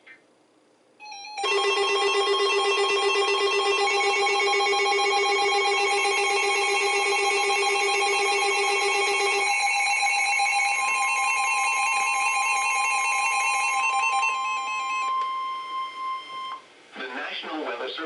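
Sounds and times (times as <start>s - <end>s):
electronic alarm tone: 1.0s - 16.6s.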